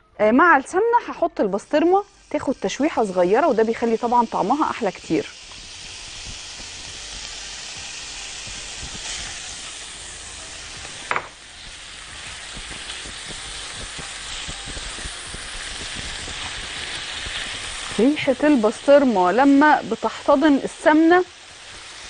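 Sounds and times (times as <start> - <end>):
meat sizzling in a frying pan: 1.1 - 22.0.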